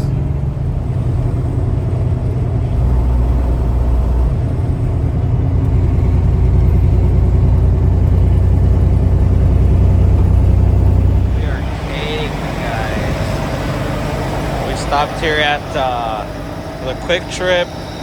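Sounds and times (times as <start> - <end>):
road noise: 0.0 - 18.0
truck diesel engine droning: 0.0 - 18.0.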